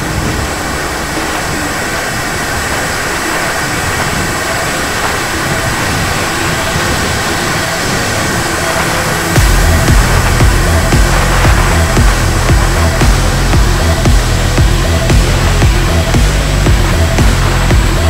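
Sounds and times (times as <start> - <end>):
jet engine rushing noise: 0.0 - 18.0.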